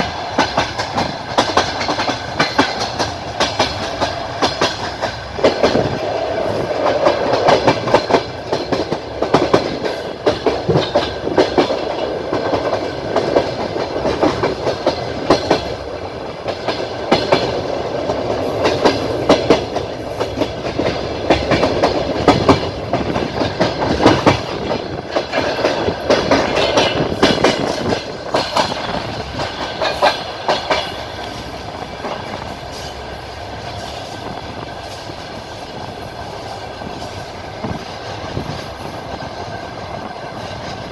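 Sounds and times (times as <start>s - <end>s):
train wheels clattering: 0.0s - 40.9s.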